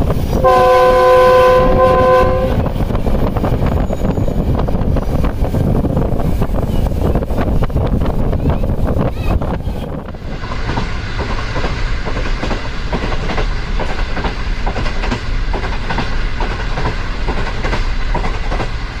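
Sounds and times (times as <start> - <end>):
continuous train rumble: 0.0 - 19.0
train wheels clattering over rail joints: 2.0 - 19.0.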